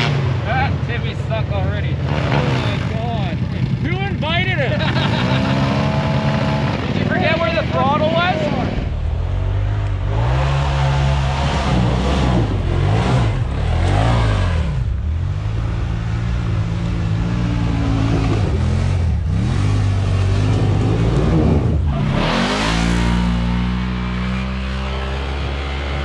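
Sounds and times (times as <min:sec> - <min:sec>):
utility vehicle engines revving: 0:00.0 - 0:26.0.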